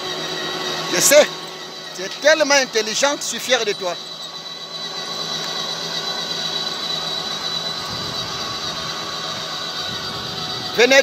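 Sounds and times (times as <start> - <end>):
electric motor whine: 0.0 - 11.0.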